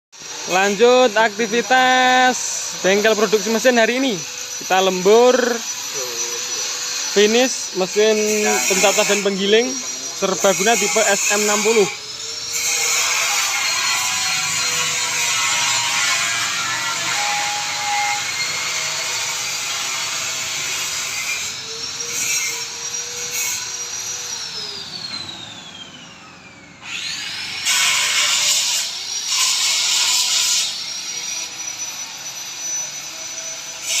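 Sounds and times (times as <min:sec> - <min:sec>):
metal grinding bursts: 0:00.2 - 0:24.7, 0:26.8 - 0:34.0
power tool high whine: 0:00.2 - 0:34.0.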